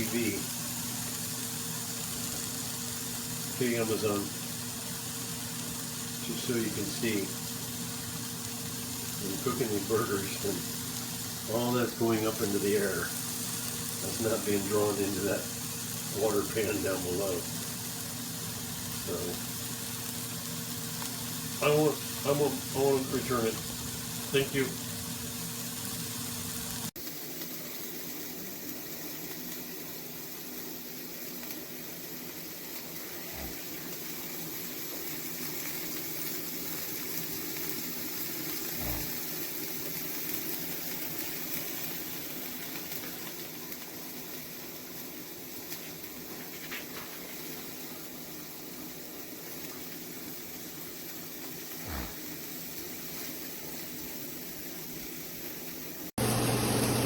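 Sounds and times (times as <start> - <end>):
burgers sizzling on grill: 0.0 - 57.0.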